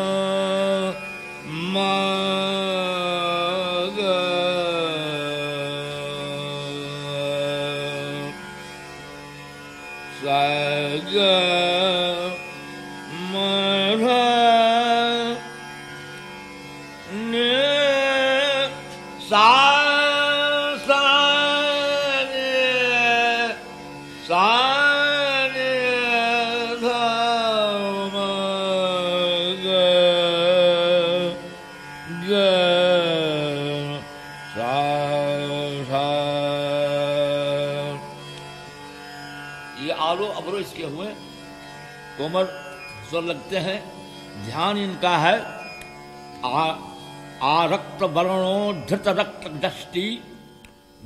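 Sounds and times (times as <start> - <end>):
man singing slow gliding phrases: 0.0 - 9.2, 10.1 - 15.9, 16.9 - 50.7
steady drone: 0.0 - 51.0.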